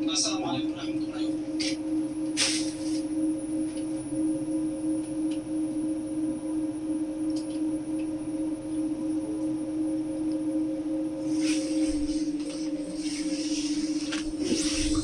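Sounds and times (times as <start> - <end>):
elevator drive electrical hum: 0.0 - 15.0
faint high whine: 0.0 - 15.0.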